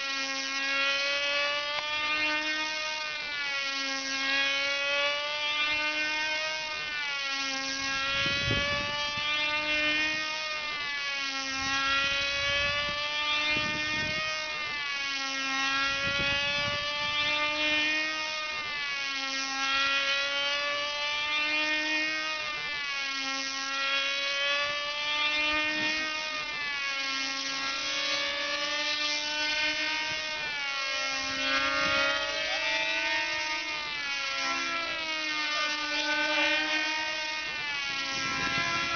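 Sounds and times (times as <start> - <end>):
model airplane engines screaming: 0.0 - 38.9.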